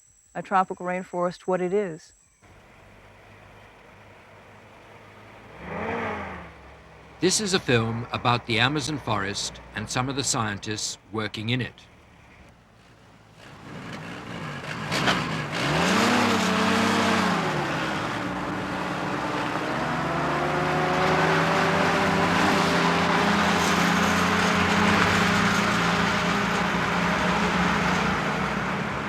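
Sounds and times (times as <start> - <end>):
car engine revving: 2.5 - 29.0.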